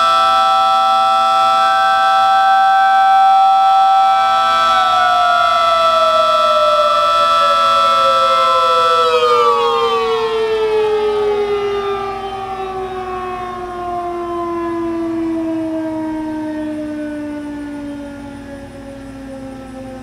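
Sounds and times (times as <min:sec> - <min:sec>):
two-tone siren winding down: 0:00.0 - 0:20.0.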